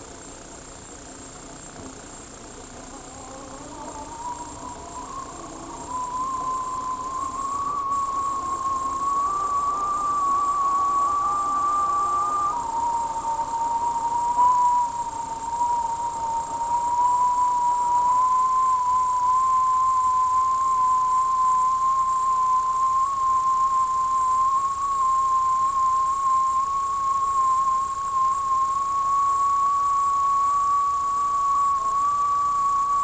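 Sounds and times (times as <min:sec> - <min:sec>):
faint high whine: 0:00.0 - 0:33.0
steady whistle-like tone: 0:00.0 - 0:33.0.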